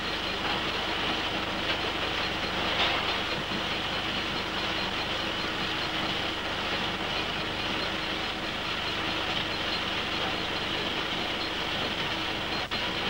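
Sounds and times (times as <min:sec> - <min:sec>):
machinery droning with low hum: 0:00.0 - 0:13.0.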